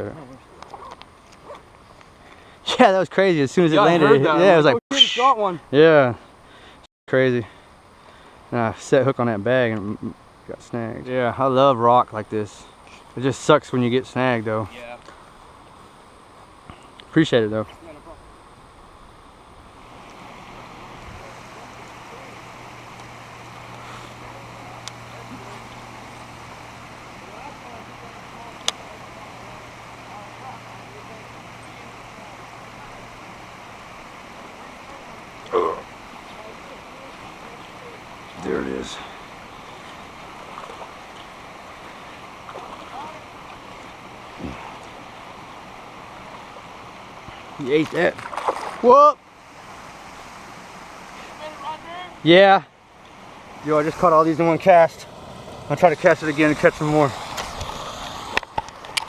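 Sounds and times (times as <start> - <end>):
low steady hum: 0.0 - 57.2
wind: 0.0 - 59.0
creek water rushing: 10.2 - 59.0.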